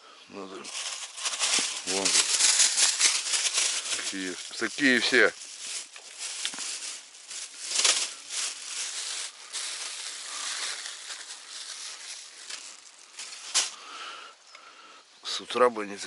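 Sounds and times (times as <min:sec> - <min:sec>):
dense rustling and rattling: 0:00.6 - 0:13.8.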